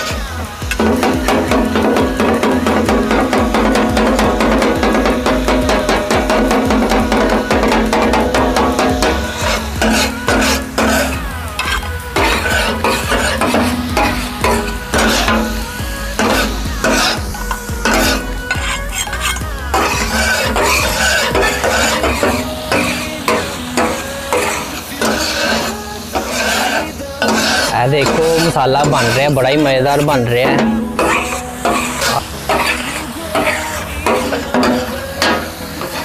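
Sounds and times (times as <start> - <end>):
meat sizzling on griddle: 0.0 - 36.0
metal spatulas clattering on griddle: 0.0 - 36.0.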